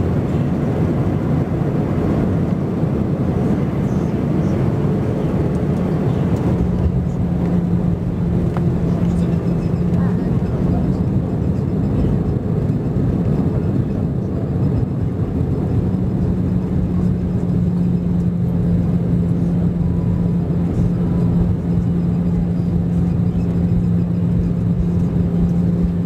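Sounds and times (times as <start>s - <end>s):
jet engines and airflow in cabin: 0.0s - 26.0s.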